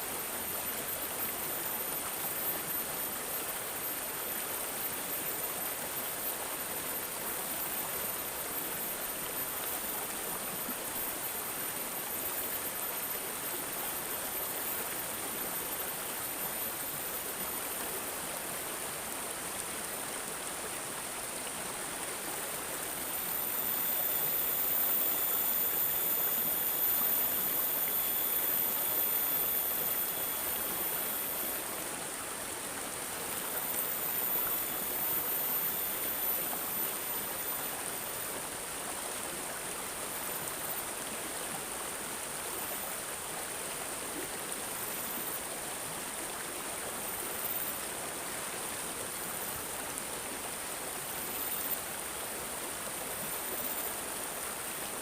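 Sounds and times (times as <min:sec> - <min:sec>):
high-pitched whine: 0:00.0 - 0:55.0
stream gurgling: 0:00.0 - 0:55.0.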